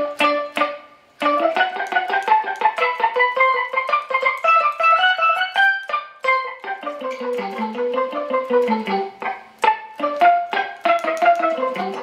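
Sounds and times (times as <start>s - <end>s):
staccato electric guitar notes: 0.0s - 12.0s.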